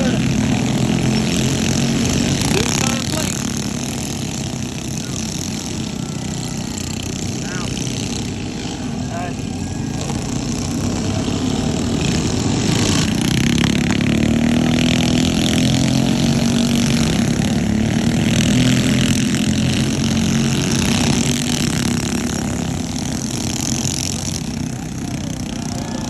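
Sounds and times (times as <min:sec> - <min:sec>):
minibike engines at high revs: 0:00.0 - 0:26.0.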